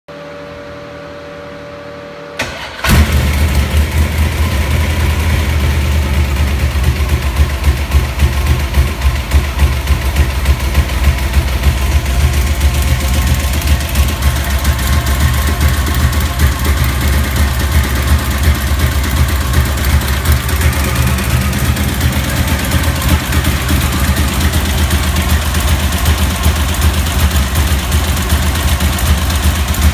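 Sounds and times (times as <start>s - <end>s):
engine idling loud: 2.8s - 29.9s.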